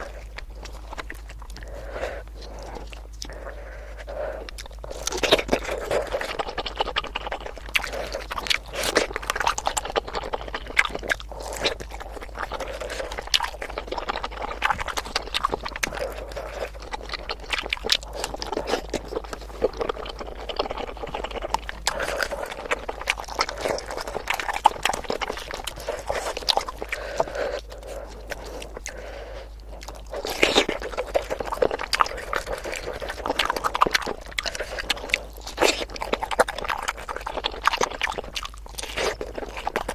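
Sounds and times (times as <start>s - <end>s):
mouth clicks and smacks: 0.0s - 39.9s
person chewing food: 0.0s - 39.9s.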